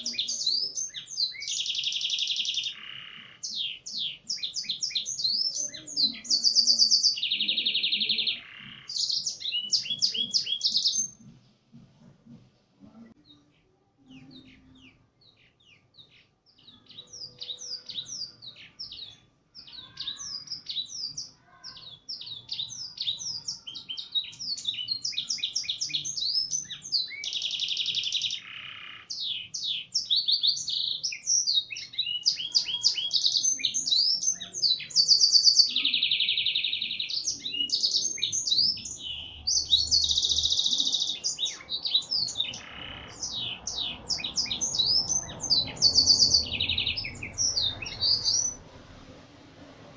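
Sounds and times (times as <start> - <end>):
canary singing with buzzy trills: 0.0 - 11.3, 12.9 - 48.7.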